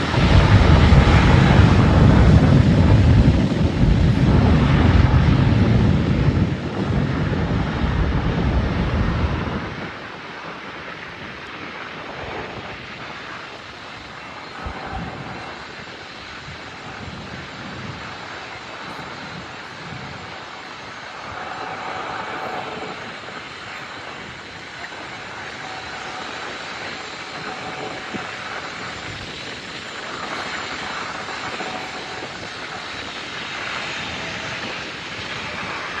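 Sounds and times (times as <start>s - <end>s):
jet engines rushing hiss: 0.0s - 36.0s.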